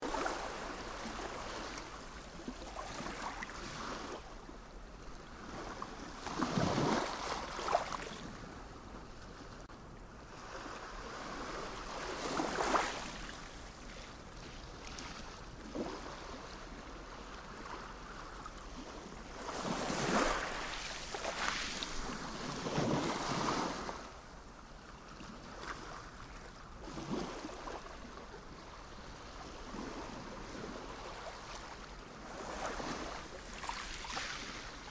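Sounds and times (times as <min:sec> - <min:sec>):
sea waves breaking on shore: 0:00.0 - 0:34.9.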